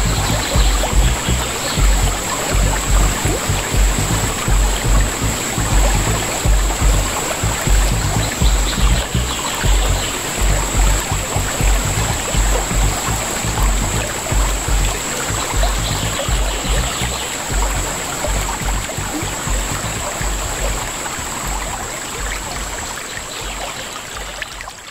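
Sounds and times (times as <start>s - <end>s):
low thumps: 0.0s - 22.9s
river water rippling: 0.0s - 24.9s.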